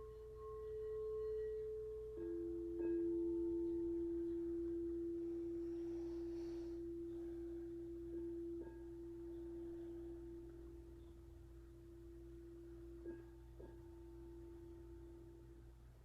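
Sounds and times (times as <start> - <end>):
crystal singing bowl ringing: 0.0 - 16.0.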